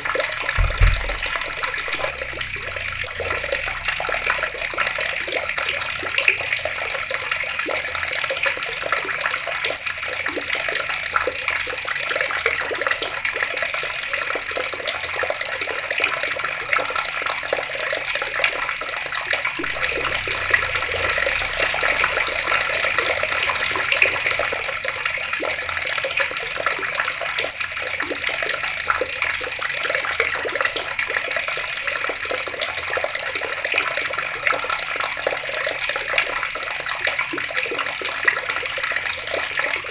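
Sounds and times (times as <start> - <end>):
tap water running and splashing: 0.0 - 39.9.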